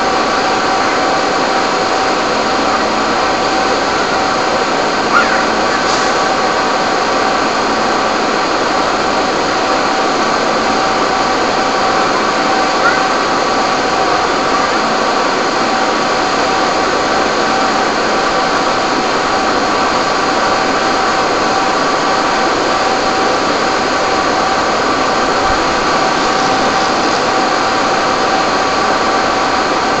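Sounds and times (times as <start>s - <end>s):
steady machine noise with whine: 0.0s - 30.0s.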